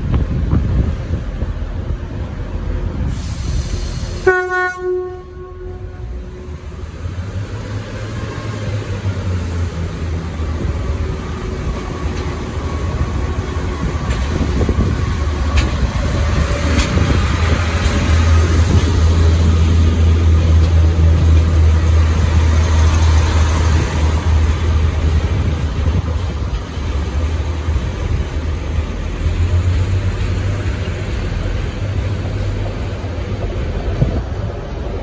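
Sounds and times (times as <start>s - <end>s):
diesel train engine drone: 0.0s - 35.0s.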